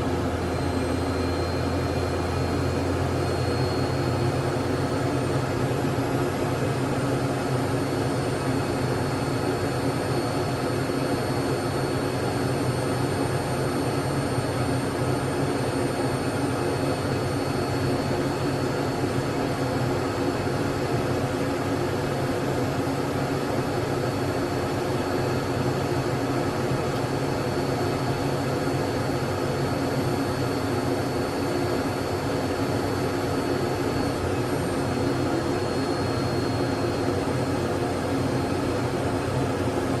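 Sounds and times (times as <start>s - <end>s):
jet engines idling: 0.0s - 40.0s.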